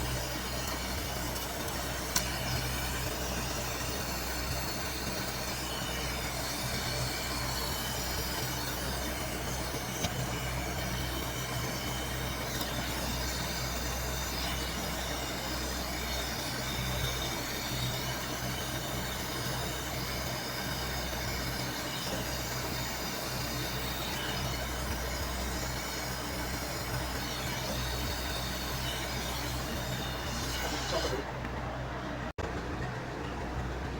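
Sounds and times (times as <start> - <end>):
refrigerator compressor humming: 0.0 - 33.9.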